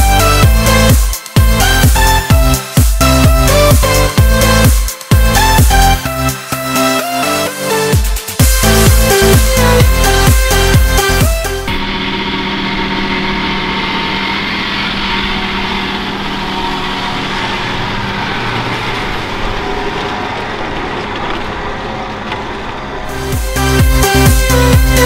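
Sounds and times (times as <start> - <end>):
rushing machinery noise: 0.0 - 25.0
tractor diesel engine running: 0.0 - 25.0.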